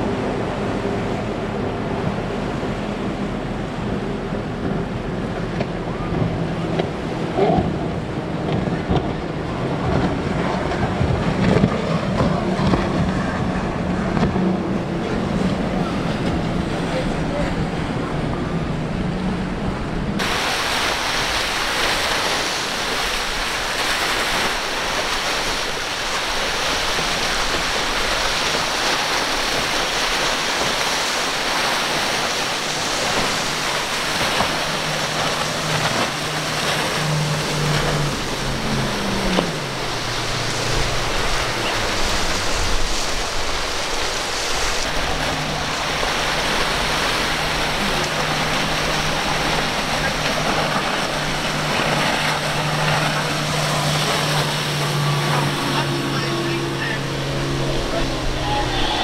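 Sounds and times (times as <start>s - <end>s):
choppy sea water: 0.0s - 59.0s
outboard motor boats passing: 0.0s - 59.0s.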